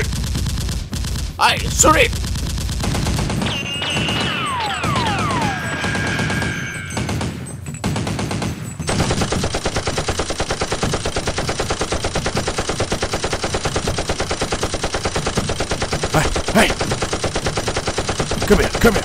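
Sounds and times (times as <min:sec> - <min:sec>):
rapid automatic gunfire: 0:00.0 - 0:19.0.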